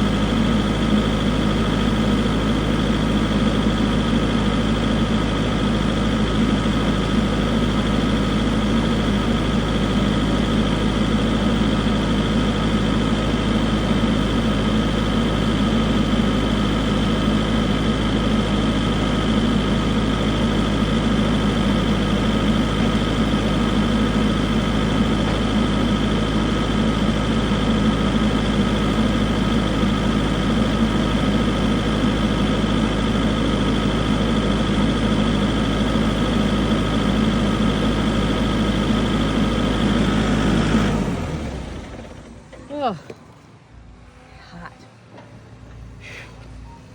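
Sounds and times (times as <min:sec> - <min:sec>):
excavator diesel engine drone: 0:00.0 - 0:46.9.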